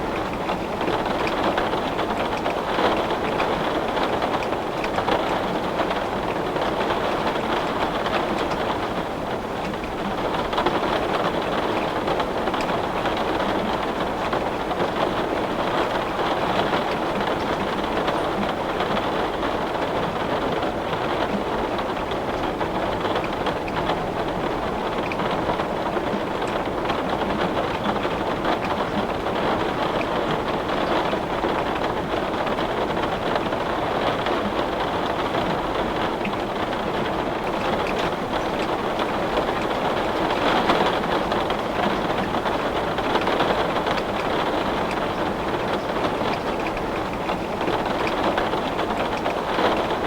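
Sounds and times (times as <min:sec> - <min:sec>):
heavy rain on window glass: 0:00.0 - 0:50.0.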